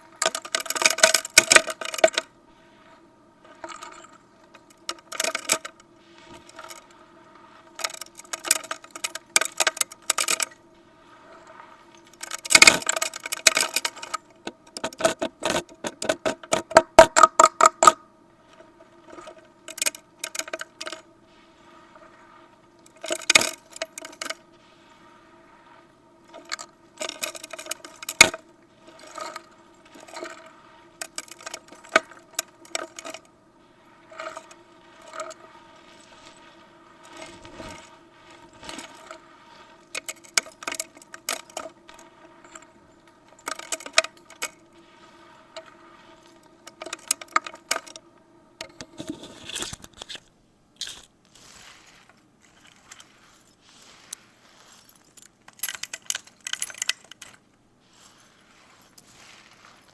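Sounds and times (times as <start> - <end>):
small hard objects clattering: 3.5 - 18.0, 18.6 - 48.1, 48.7 - 59.9.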